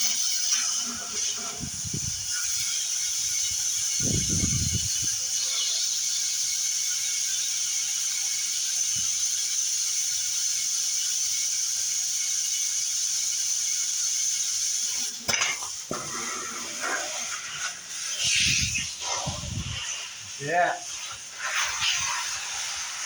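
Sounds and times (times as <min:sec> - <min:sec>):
compressed air hissing into tire: 0:00.0 - 0:23.0.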